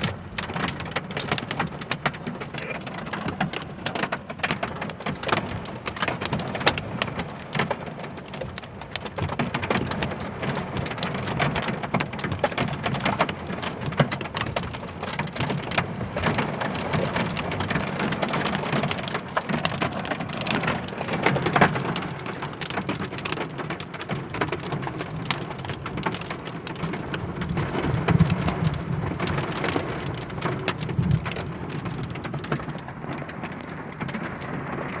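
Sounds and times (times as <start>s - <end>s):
heavy rain falling: 0.0s - 35.0s
raindrops hitting close by: 0.0s - 35.0s.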